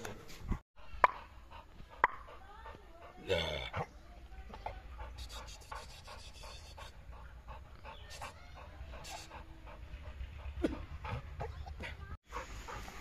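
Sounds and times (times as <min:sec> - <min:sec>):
dog panting: 0:00.8 - 0:13.0.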